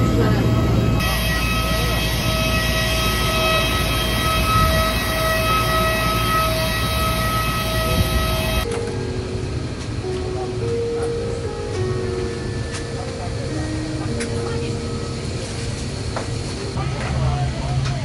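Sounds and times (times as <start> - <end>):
high whine: 0.0 - 18.0.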